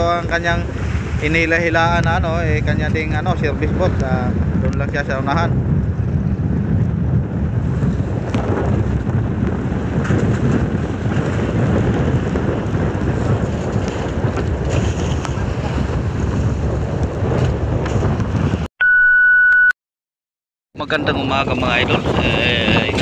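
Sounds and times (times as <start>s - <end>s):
wind buffeting microphone: 0.0s - 18.7s, 20.8s - 23.0s.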